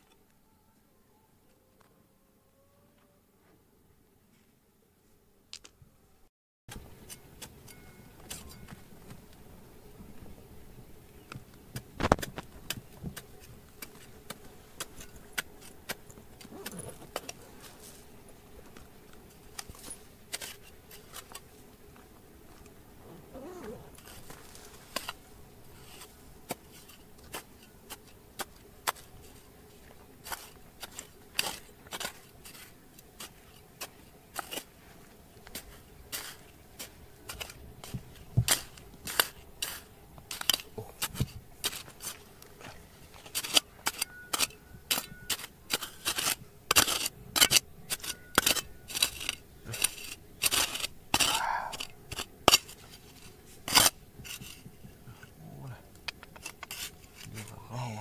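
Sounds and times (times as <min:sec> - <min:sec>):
hand tool scraping gravel: 0:06.7 - 0:08.8, 0:11.8 - 0:58.0.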